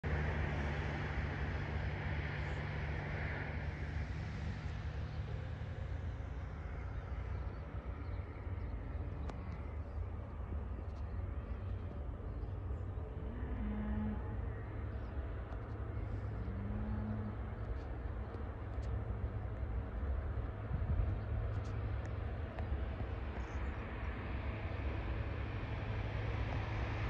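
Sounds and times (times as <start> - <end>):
low engine rumble: 0.0 - 27.0
road vehicle passing: 0.0 - 27.0.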